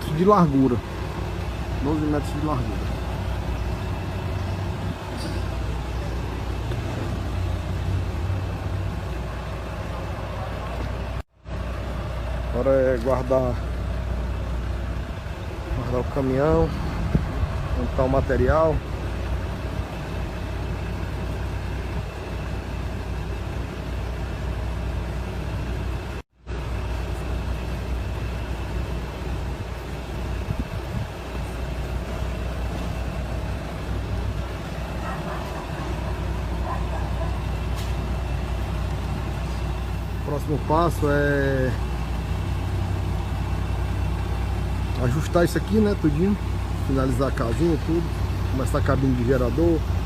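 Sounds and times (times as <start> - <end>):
truck engine humming: 0.0 - 50.0.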